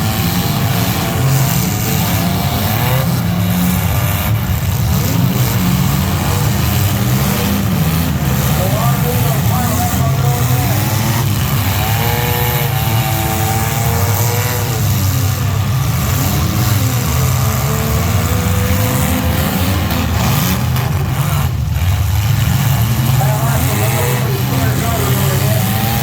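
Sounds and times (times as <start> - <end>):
vehicle engines revving: 0.0 - 26.0.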